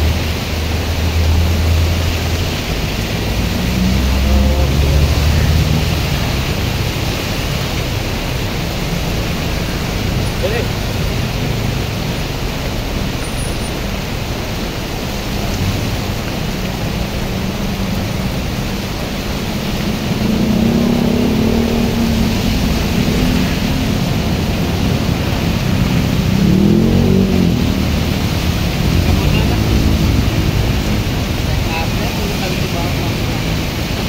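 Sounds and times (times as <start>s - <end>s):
heavy rain: 0.0s - 34.0s
motorbikes passing: 0.0s - 34.0s
tyres hissing through water: 0.0s - 34.0s
vehicle engines: 0.0s - 34.0s.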